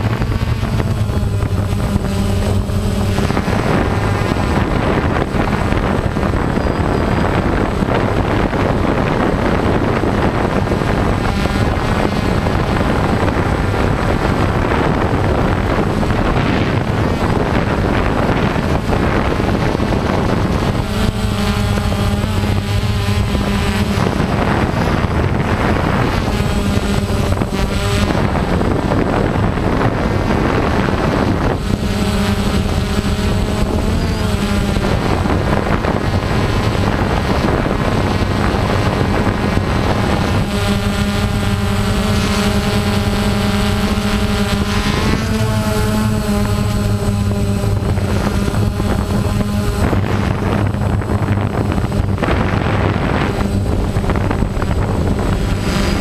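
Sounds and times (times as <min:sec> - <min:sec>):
drone motors humming: 0:00.0 - 0:56.0
high motor whine: 0:00.0 - 0:56.0
wind rush: 0:00.0 - 0:56.0.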